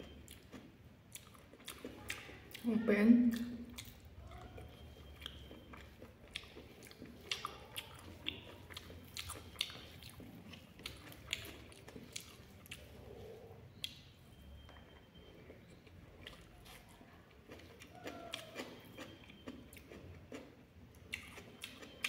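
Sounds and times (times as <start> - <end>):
person chewing with wet smacks: 0.0 - 22.0.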